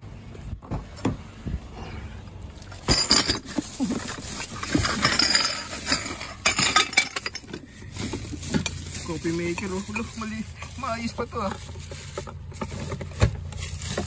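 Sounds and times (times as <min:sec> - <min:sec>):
plastic bag rustling: 0:02.6 - 0:14.0.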